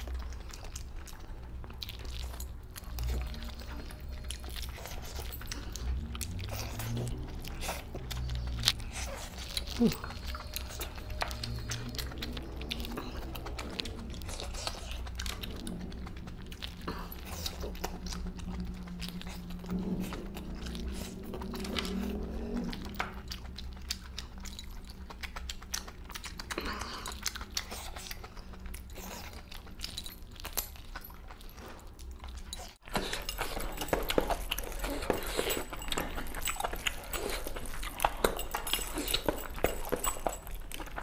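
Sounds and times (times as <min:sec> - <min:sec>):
low steady hum: 0:00.0 - 0:41.0
man chewing food: 0:00.0 - 0:41.0.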